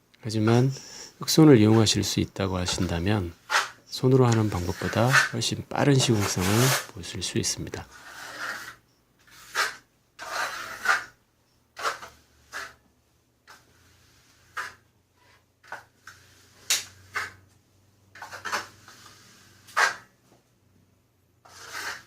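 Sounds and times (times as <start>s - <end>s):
trowel scraping on wall: 1.6s - 17.5s, 18.1s - 20.2s, 21.4s - 22.0s.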